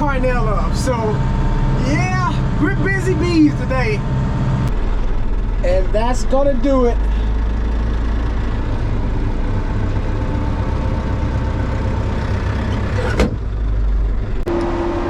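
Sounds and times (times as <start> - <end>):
farm vehicle engine rumbling: 0.0 - 15.0.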